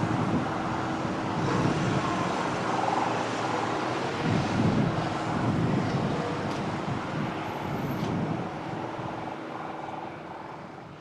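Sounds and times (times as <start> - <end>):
aircraft noise rushing: 0.0 - 10.9.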